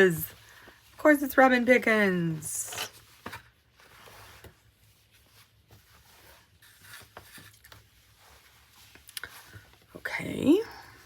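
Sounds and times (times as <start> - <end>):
fabric and packaging rustling: 0.0 - 11.0.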